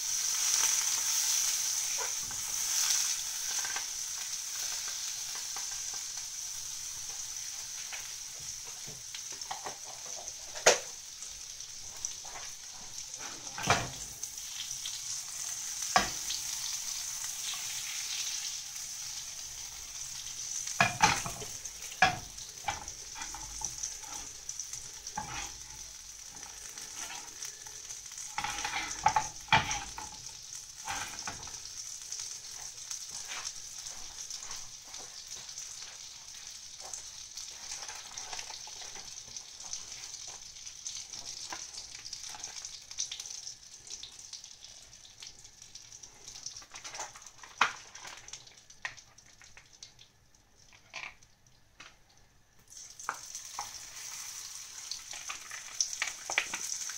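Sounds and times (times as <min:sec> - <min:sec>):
butter sizzling in a frying pan: 0:00.0 - 0:56.9.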